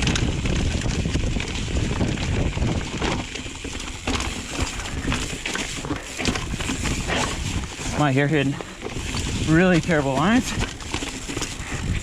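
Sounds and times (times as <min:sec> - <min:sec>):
bike rattling over rocks: 0:00.0 - 0:12.0
tyres rolling on rock: 0:00.0 - 0:12.0
wind on microphone: 0:00.0 - 0:12.0.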